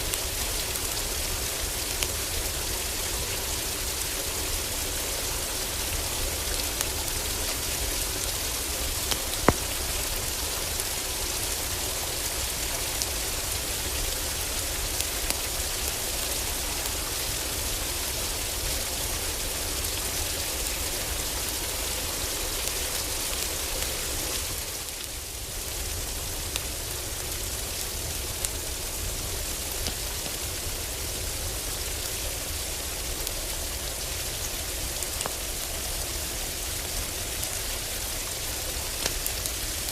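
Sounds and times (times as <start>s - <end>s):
heavy rain on a wooden roof: 0.0s - 39.9s
wood fire crackling: 0.0s - 39.9s.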